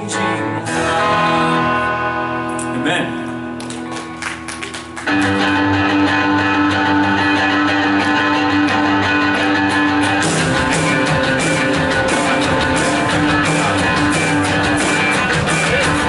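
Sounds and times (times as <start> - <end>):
guitar strums: 0.0 - 16.0
worship band playing: 0.0 - 16.0.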